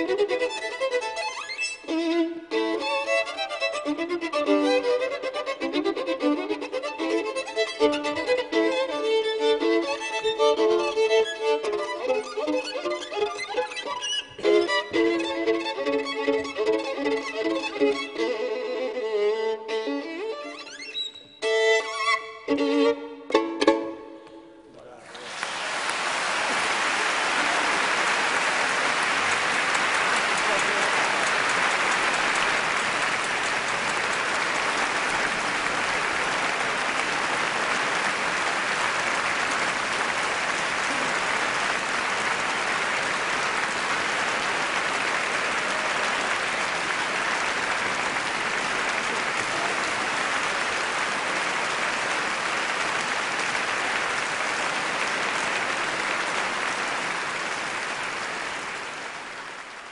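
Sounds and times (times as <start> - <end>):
audience applauding: 0.0 - 21.7, 24.9 - 59.9.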